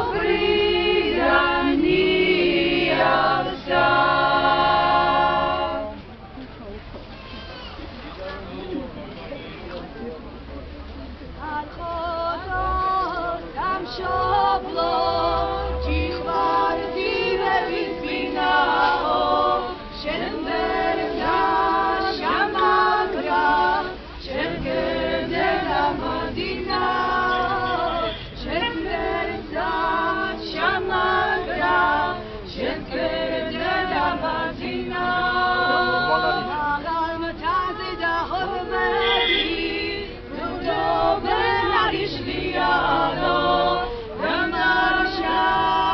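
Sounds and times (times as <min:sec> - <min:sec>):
choir singing unaccompanied: 0:00.0 - 0:06.0, 0:11.4 - 0:45.9.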